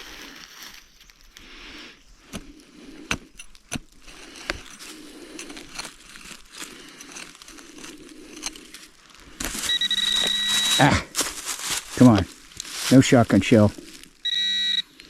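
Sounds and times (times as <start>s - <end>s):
soil and leaf litter crunching: 0.0s - 2.8s, 3.5s - 15.0s.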